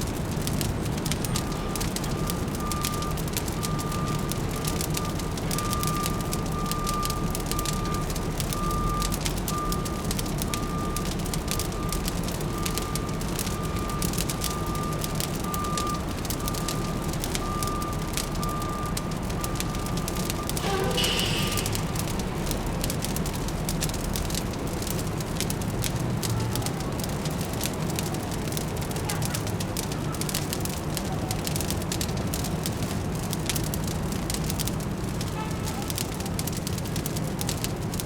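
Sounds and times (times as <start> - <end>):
fire crackling: 0.0 - 38.0
low city rumble: 0.0 - 38.0.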